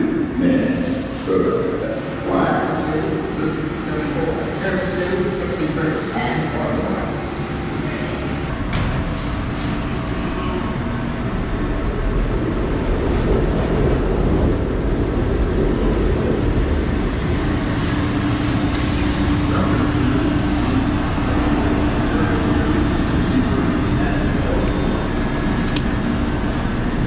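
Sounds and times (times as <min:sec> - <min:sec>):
steady train hum: 0:00.0 - 0:27.0
train wheels rumbling on rails: 0:00.8 - 0:27.0.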